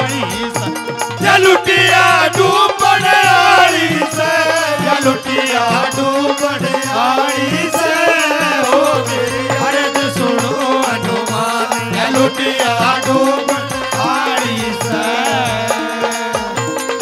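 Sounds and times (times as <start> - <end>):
devotional folk music: 0.0 - 17.0
hand drums beating: 0.0 - 17.0.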